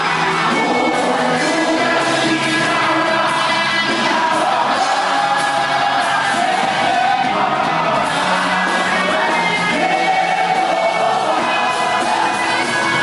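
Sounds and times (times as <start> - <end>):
worship music with singing: 0.0 - 13.0.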